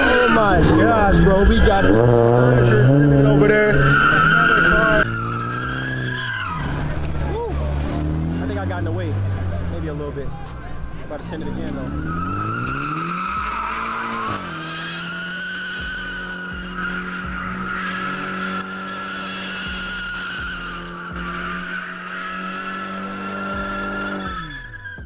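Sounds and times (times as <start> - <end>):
car engine revving: 0.0 - 25.0
tyres squealing: 0.0 - 25.0.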